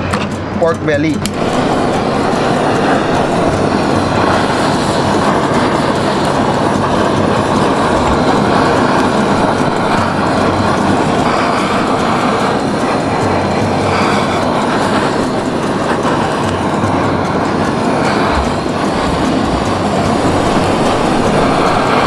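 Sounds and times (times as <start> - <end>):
gas torch flame rushing: 0.0 - 22.0.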